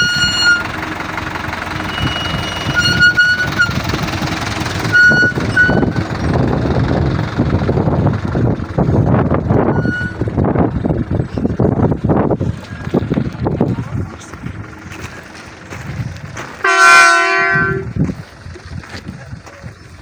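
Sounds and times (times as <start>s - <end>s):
low rumble: 0.0s - 20.0s
wind buffeting microphone: 1.6s - 16.7s, 17.5s - 20.0s.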